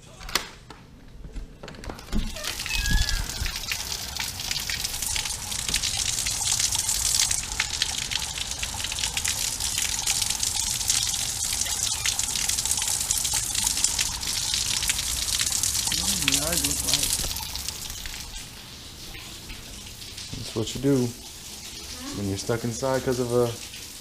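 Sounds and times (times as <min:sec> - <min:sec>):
water gushing and splashing: 0:02.1 - 0:24.0.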